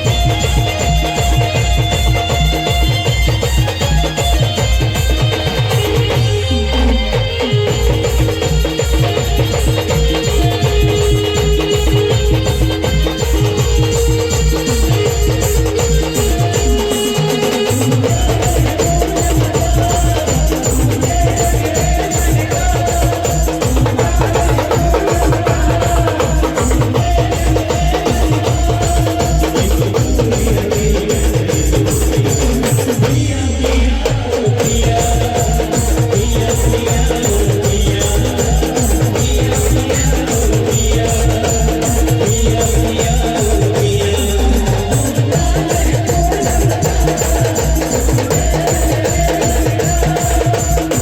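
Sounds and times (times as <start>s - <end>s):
fast drum beat: 0.0s - 51.0s
held melody line: 0.0s - 51.0s.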